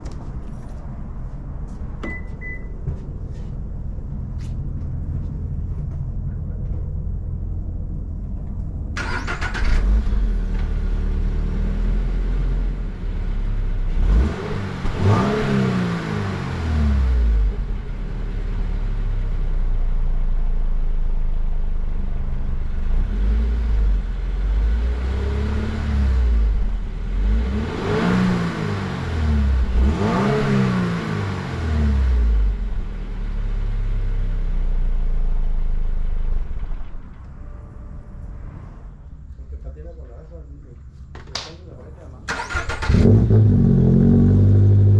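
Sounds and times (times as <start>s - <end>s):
car engine idling and revving: 0.0s - 37.1s, 42.3s - 44.9s.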